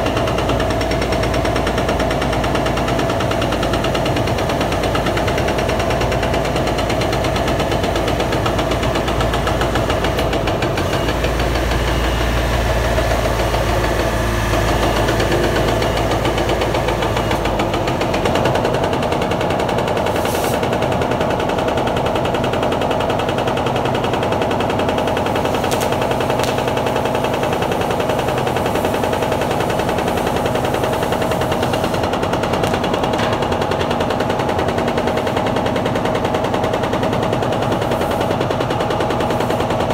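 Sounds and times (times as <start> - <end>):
hydraulic breaker hammering concrete: 0.0 - 39.9
machine engine rumble: 0.0 - 39.9.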